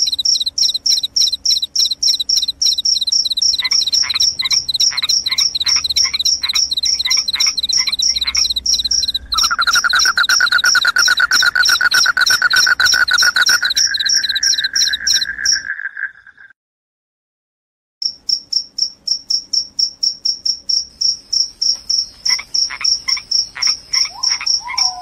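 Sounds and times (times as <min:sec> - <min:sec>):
crickets chirping: 0:00.0 - 0:16.5, 0:18.0 - 0:25.0
low continuous insect trill: 0:00.0 - 0:16.5, 0:18.0 - 0:25.0.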